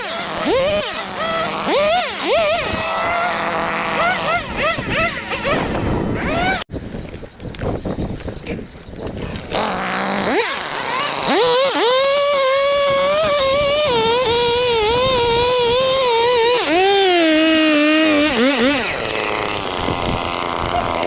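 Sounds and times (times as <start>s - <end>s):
chainsaw engine revving: 0.0s - 6.7s, 9.2s - 21.0s.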